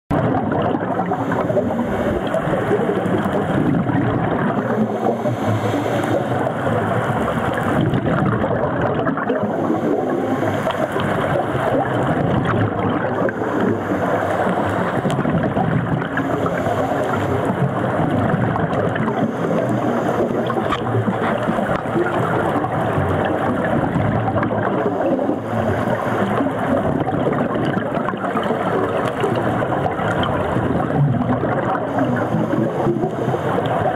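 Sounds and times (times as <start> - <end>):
underwater rushing and gurgling: 0.1 - 33.9.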